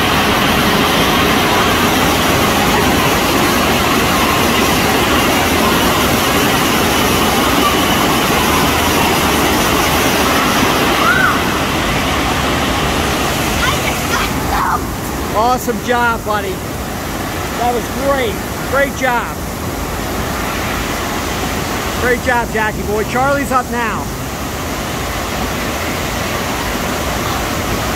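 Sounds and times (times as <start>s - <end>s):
water rushing loudly: 0.0s - 27.9s.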